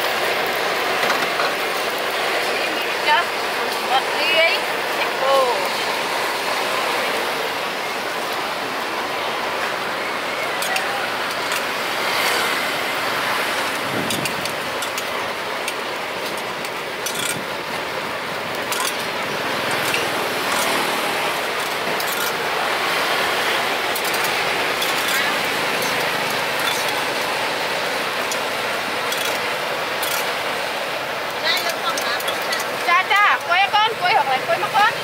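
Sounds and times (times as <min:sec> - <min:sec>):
traffic: 0:00.0 - 0:35.0.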